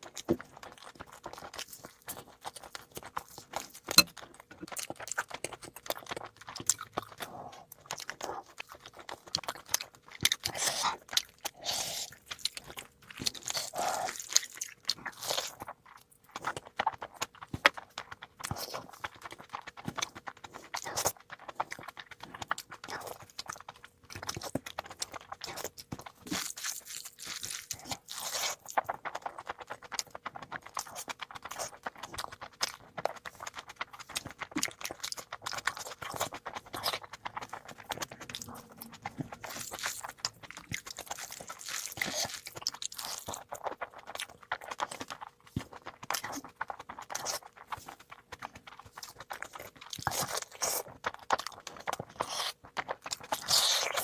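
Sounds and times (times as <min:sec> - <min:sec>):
wet chewing and smacking: 0:00.0 - 0:54.0.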